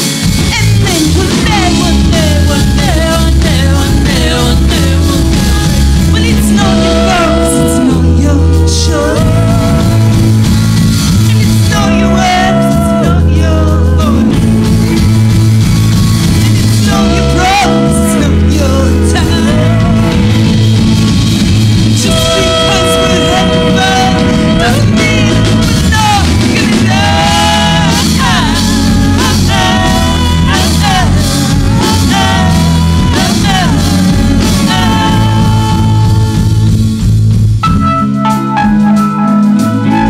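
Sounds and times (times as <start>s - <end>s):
bass notes: 0.0s - 40.0s
electric guitar: 0.0s - 40.0s
keyboard: 0.0s - 40.0s
woman singing: 0.4s - 10.5s, 11.3s - 14.9s, 16.4s - 20.7s, 22.0s - 36.8s.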